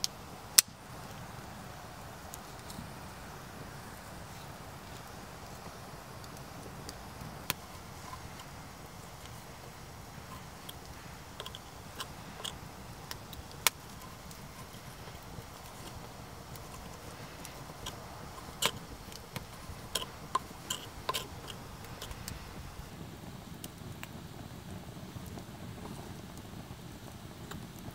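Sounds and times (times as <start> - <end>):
campfire crackling: 0.0 - 27.9.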